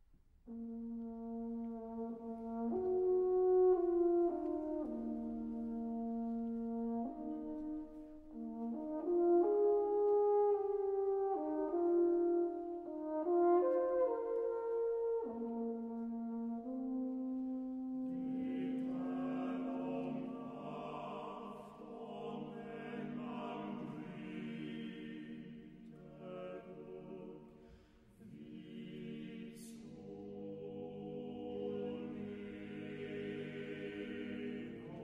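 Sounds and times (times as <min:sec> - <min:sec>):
choir singing long chords: 0:00.5 - 0:35.0.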